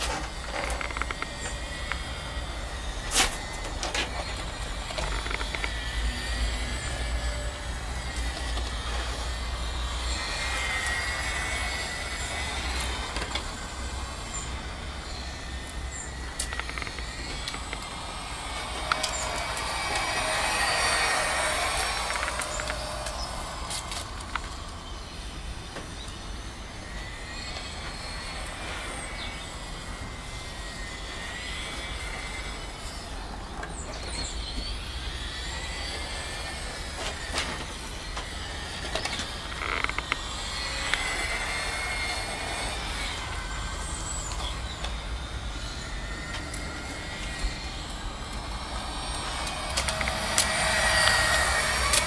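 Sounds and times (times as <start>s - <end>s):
toy car motor whining: 0.0s - 52.0s.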